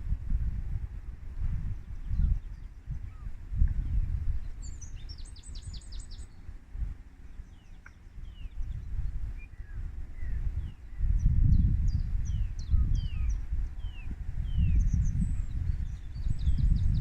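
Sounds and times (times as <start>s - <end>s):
wind buffeting microphone: 0.0s - 17.0s
small bird singing high chirps: 1.7s - 6.5s, 7.3s - 17.0s.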